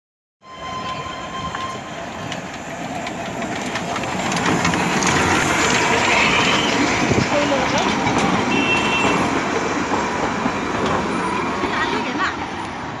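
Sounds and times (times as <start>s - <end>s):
steam locomotive: 0.4s - 13.0s.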